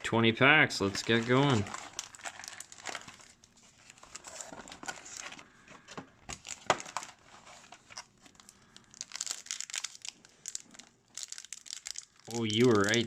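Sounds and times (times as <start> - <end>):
card wrappers crinkling and tearing: 0.8 - 5.5, 6.3 - 13.0.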